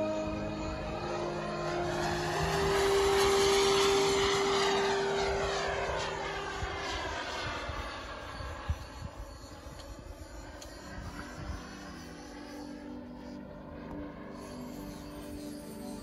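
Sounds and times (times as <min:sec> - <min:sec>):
model jet rushing past: 0:00.0 - 0:16.0.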